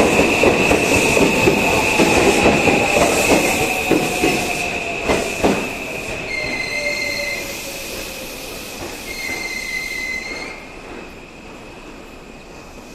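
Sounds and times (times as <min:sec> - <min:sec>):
electric train passing: 0:00.0 - 0:12.9.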